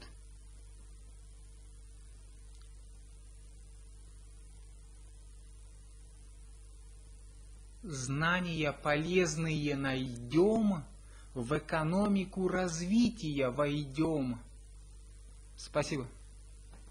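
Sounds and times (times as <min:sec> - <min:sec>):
electrical hum with hiss: 0:00.0 - 0:16.9.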